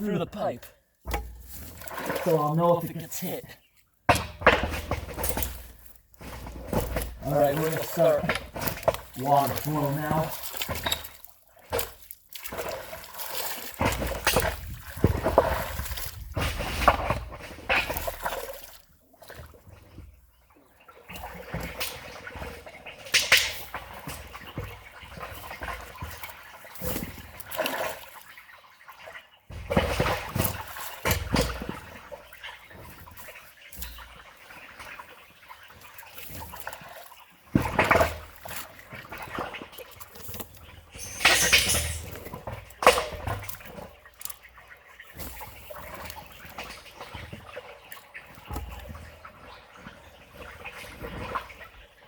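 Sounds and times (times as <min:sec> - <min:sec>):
water splashing and gurgling: 0:00.0 - 0:52.0.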